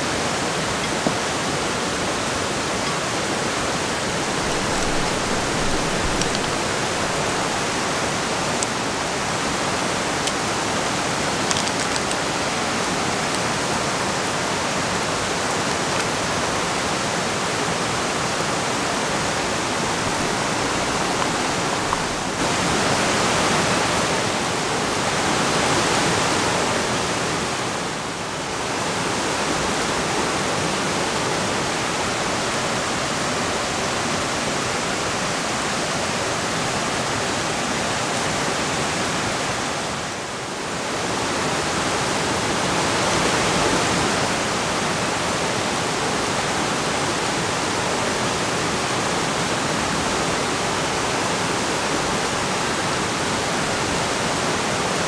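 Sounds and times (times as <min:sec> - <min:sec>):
rain falling: 0:00.0 - 0:55.0
river water flowing: 0:00.0 - 0:55.0.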